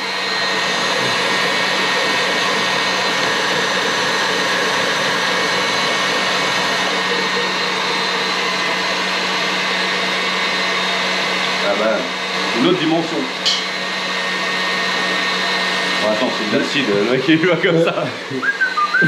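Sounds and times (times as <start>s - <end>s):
electric motor whirring: 0.0s - 19.0s.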